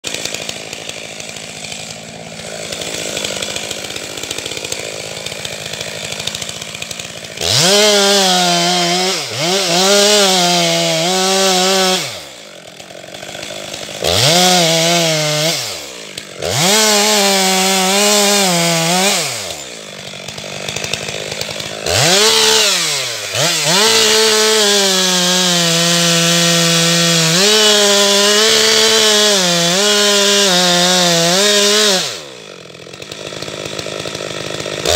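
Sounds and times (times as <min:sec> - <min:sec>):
chainsaw revving cutting wood: 0:00.0 - 0:34.9.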